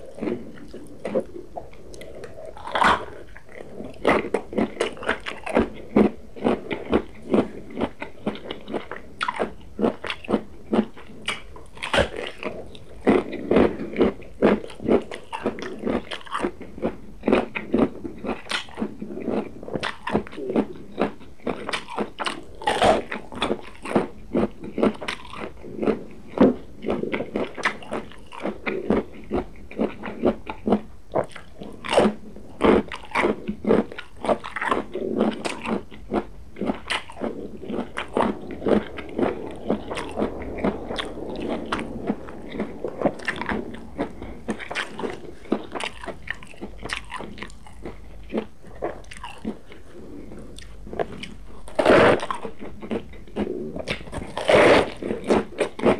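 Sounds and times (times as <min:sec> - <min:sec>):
crunchy vegetable crunching: 0:00.0 - 0:55.9
soft chewing: 0:00.0 - 0:55.9.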